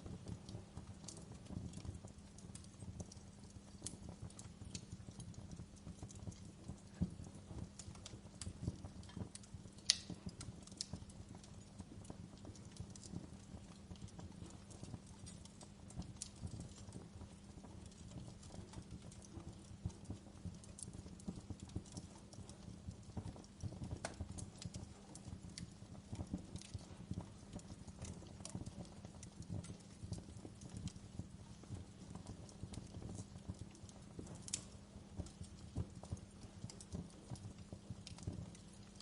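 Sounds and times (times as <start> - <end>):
log fire crackling: 0.0 - 39.0.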